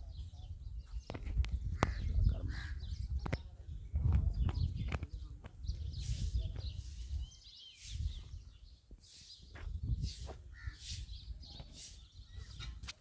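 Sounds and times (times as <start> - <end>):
bird chirps and calls: 0.0 - 13.0.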